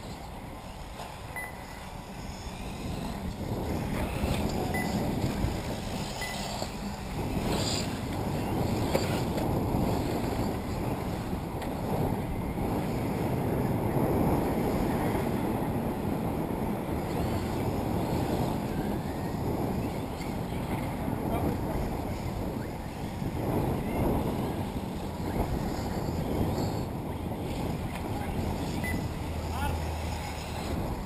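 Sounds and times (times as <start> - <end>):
faint electric rc cars racing: 0.0 - 31.0
wind buffeting microphone: 0.0 - 31.0.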